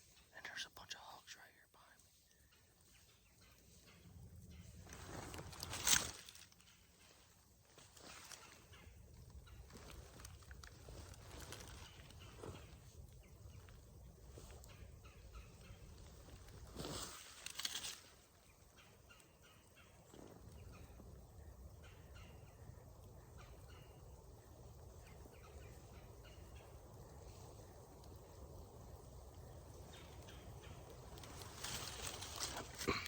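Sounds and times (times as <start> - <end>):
rustle: 0.0 - 33.0.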